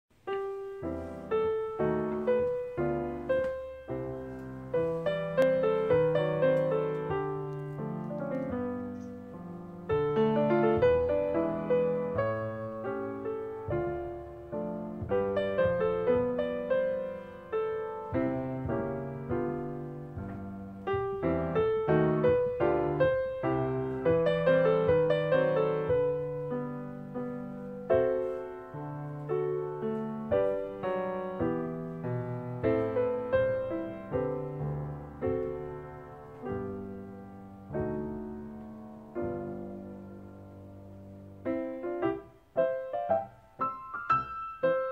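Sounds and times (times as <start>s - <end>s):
soft piano music: 0.1s - 44.9s.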